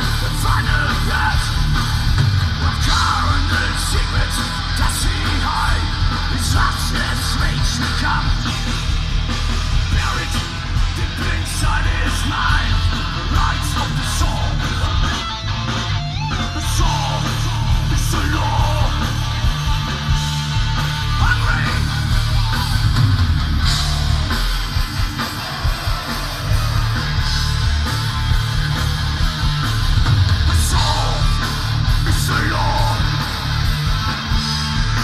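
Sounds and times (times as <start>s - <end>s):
bass guitar: 0.0s - 35.0s
distorted electric guitars: 0.0s - 35.0s
drums: 0.0s - 35.0s.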